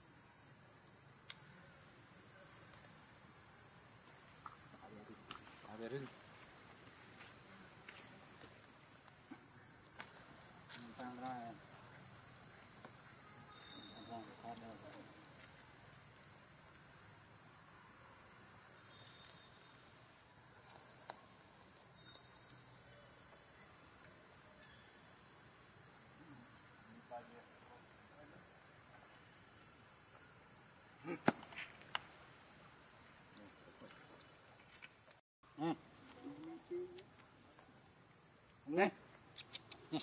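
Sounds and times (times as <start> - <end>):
insects chorus: 0.0 - 40.0.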